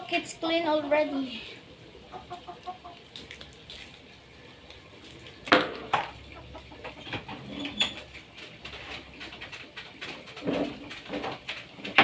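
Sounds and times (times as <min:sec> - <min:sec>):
chickens clucking: 0:01.6 - 0:11.8.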